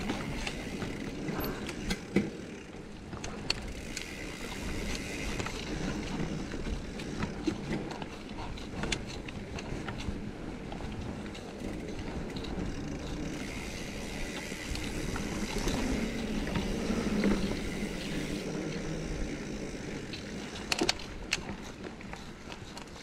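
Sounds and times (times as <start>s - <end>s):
bike tyres rumbling on dirt: 0.0s - 23.0s.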